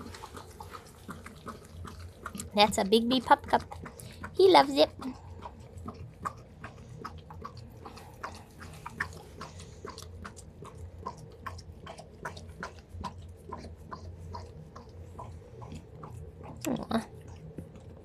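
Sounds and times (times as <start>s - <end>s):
dog licking and lapping: 0.0s - 18.0s.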